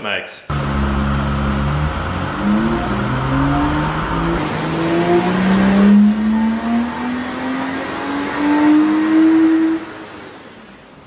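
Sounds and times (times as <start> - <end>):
car engine revving on a dyno: 0.5 - 11.0.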